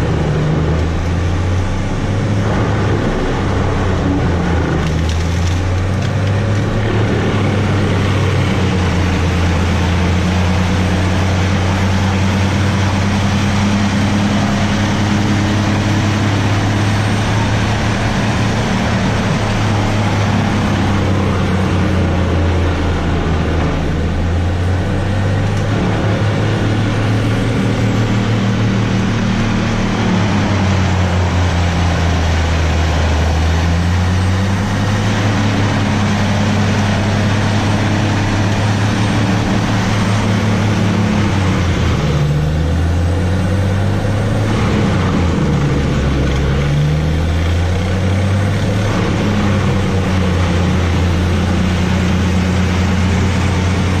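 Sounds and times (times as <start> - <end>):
wood chipper engine under load: 0.0 - 54.0.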